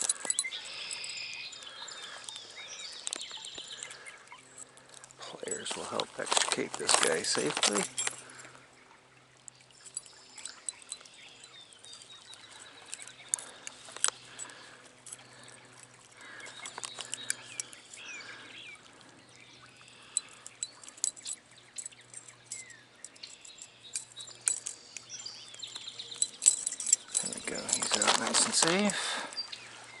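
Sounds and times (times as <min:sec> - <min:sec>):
small birds chirping: 0:00.0 - 0:30.0
stream water trickling: 0:00.0 - 0:30.0.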